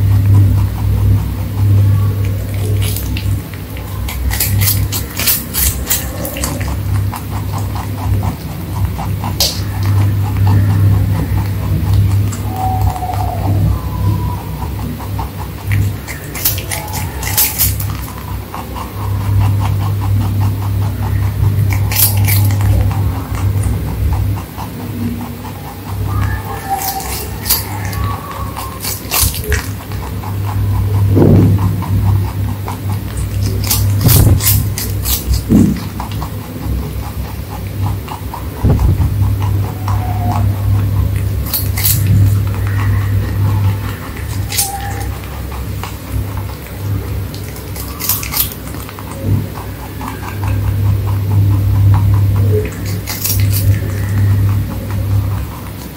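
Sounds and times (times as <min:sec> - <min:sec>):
low steady hum: 0:00.0 - 0:55.9
rabbit crunching food: 0:00.0 - 0:55.9.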